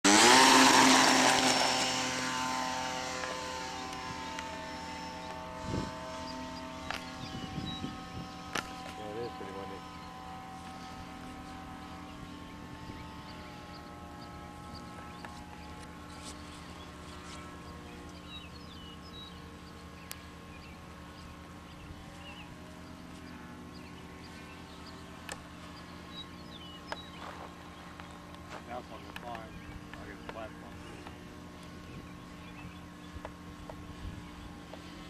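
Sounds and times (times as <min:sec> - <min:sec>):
model plane motor whining: 0:00.0 - 0:35.0.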